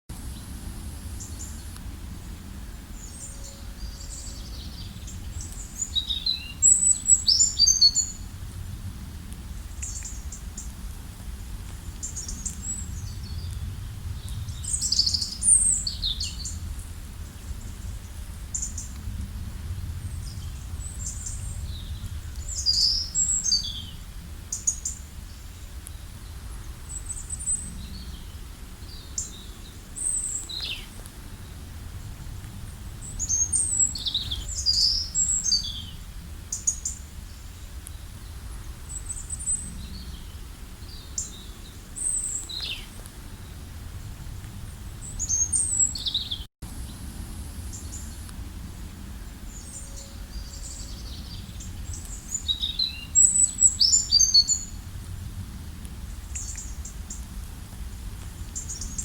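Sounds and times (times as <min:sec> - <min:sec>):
steady low rumble: 0:00.1 - 0:59.0.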